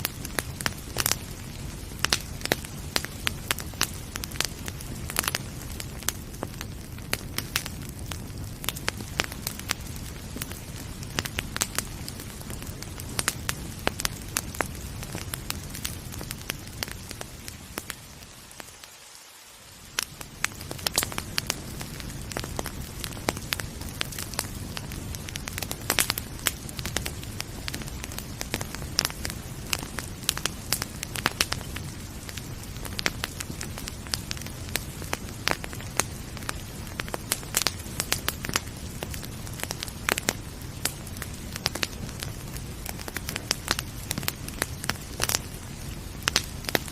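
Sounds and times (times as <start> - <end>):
rain hiss: 0.0 - 46.9
wood fire crackling and popping: 0.0 - 46.9.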